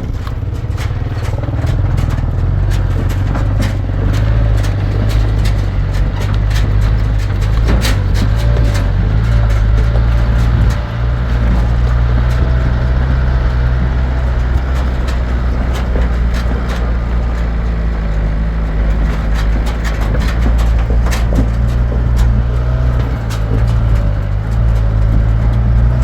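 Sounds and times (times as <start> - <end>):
rattles and clicks: 0.0 - 26.0
vehicle engine droning: 0.0 - 26.0.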